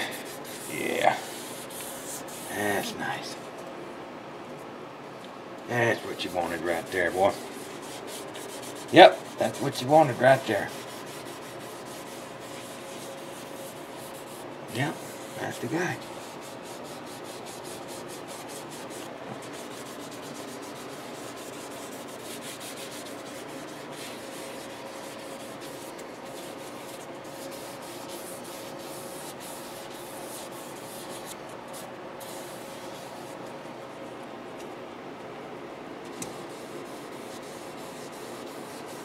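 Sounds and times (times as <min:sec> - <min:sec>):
sanding guitar wood: 0:00.0 - 0:02.9, 0:06.3 - 0:33.4, 0:36.3 - 0:39.0
faint steady hum: 0:00.0 - 0:39.0.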